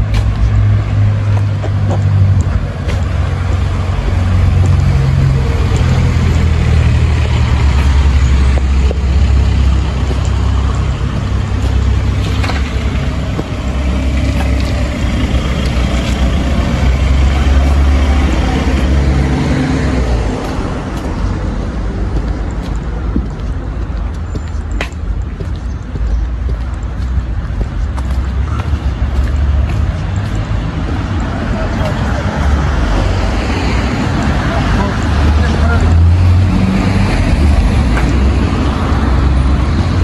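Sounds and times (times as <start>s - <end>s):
engine low rumble: 0.0s - 40.0s.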